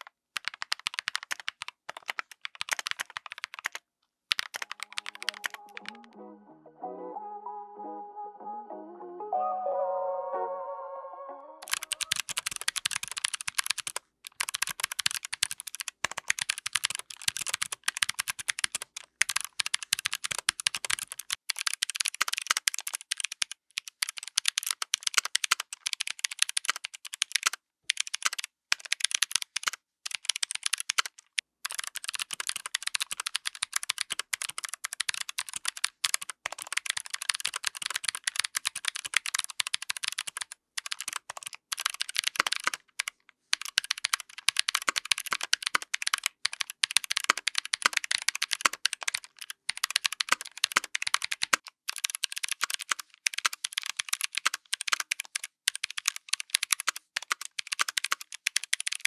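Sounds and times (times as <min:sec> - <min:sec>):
typing on mechanical keyboard: 0:00.0 - 0:06.1, 0:11.6 - 0:59.0.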